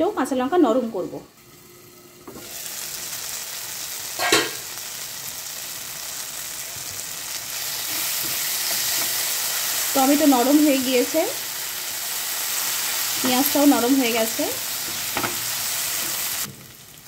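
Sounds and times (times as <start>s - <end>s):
vegetables sizzling in frying pan: 0.0s - 17.0s.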